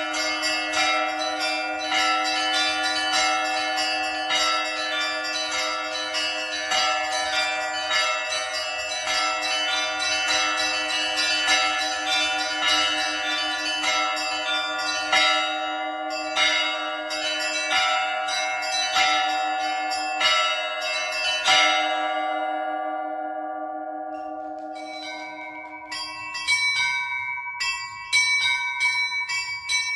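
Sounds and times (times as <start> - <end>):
hum of large bells: 0.0 - 29.9
small church bells ringing: 0.0 - 29.9.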